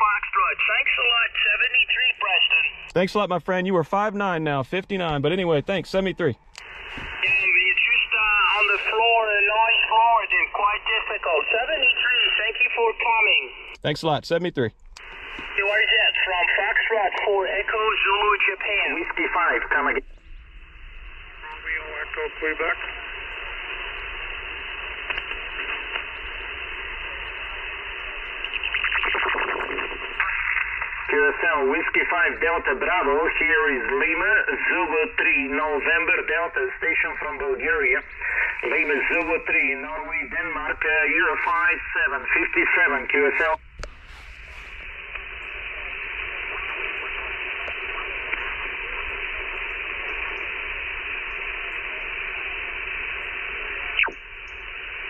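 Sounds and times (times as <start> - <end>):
radio speaker hissing: 0.0 - 55.0.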